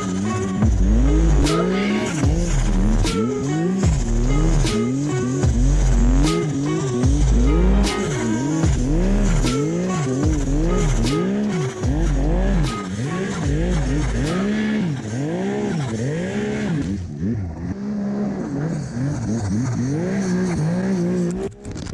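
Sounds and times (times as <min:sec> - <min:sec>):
snowmobile engine revving: 0:00.0 - 0:21.9.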